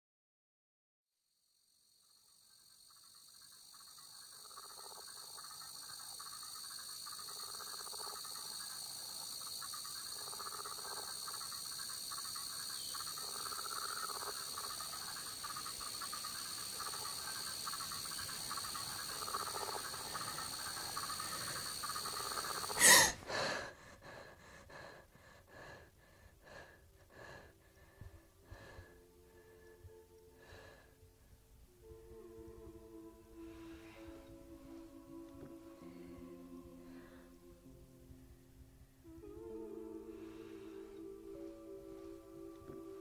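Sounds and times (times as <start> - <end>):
insect chorus: 1.3 - 38.0, 39.0 - 43.0.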